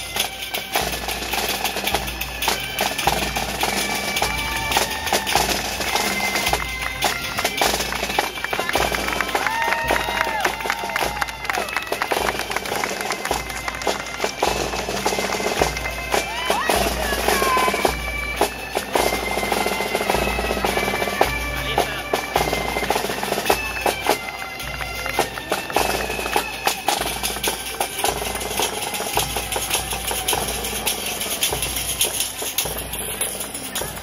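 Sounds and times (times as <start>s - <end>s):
bagpipes playing a melody: 0.0s - 34.0s
steady drum beat: 0.0s - 34.0s
tambourines jingling: 0.0s - 34.0s.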